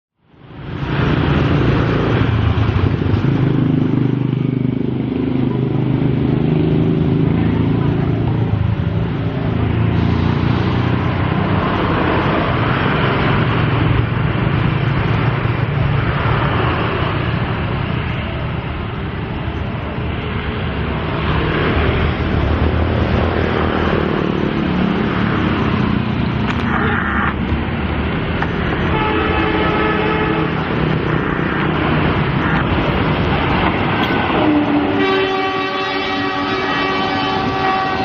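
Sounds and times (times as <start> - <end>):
traffic passing close by: 0.2 - 38.0.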